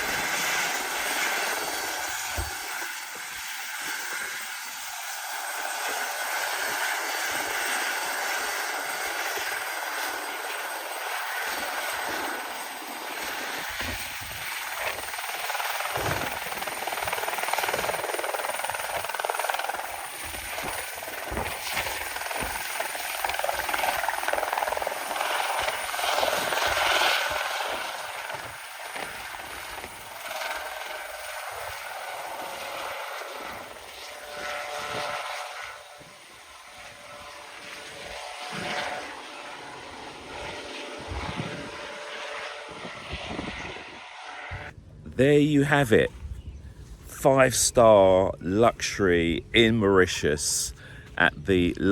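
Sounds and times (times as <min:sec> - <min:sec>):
light aircraft engine roar: 0:00.0 - 0:45.2.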